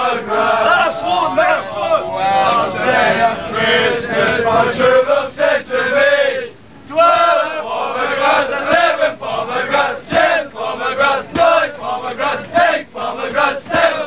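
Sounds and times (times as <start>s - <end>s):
crowd of men chanting: 0.0s - 14.0s.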